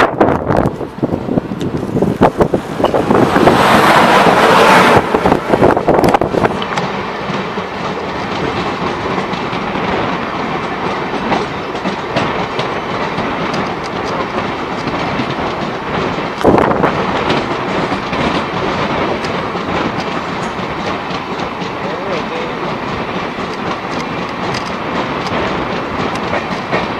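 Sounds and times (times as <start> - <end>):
train rumbling on track: 0.0 - 26.9
wheels clicking over rail joints: 0.0 - 26.9.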